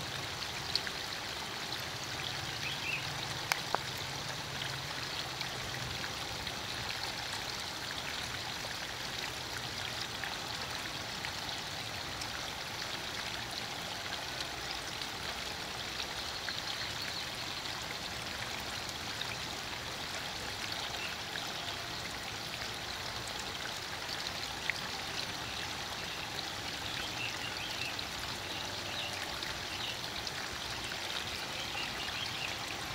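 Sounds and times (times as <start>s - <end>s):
running water: 0.0s - 32.9s.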